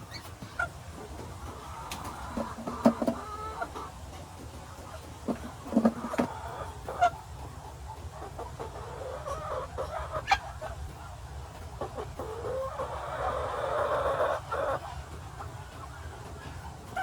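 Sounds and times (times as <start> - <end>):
poultry clucking and calling: 0.0 - 17.0.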